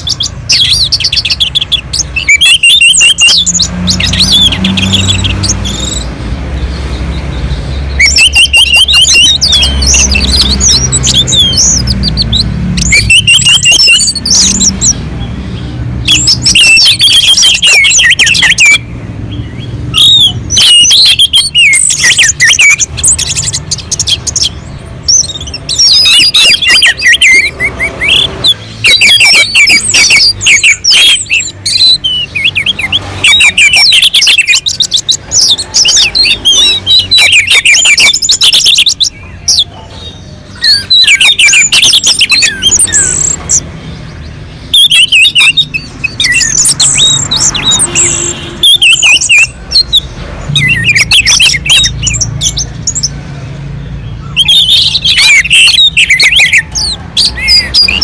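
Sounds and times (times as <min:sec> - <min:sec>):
thrush singing warbling phrases: 0:00.0 - 0:15.3, 0:16.0 - 0:53.3, 0:54.0 - 0:58.0.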